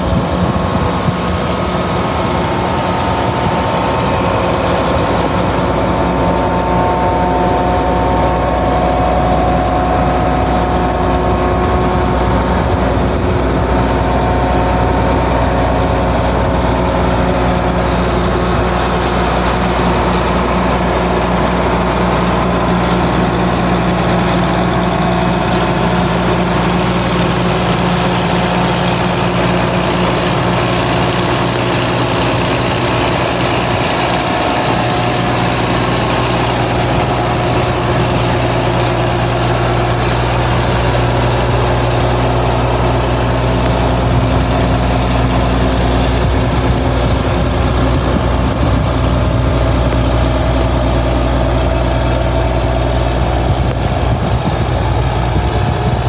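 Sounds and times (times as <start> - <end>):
diesel engine idling: 0.0 - 56.0
high-pitched whine: 0.0 - 56.0.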